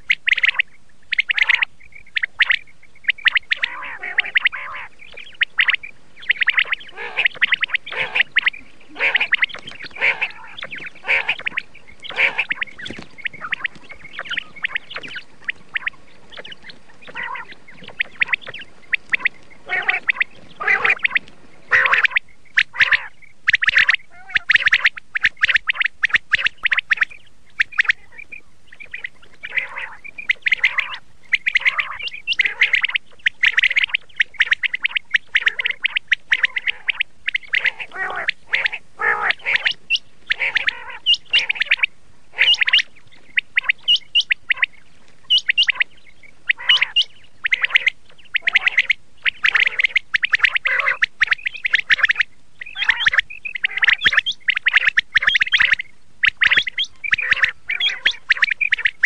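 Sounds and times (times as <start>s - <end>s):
quail calling: 0.0s - 59.0s.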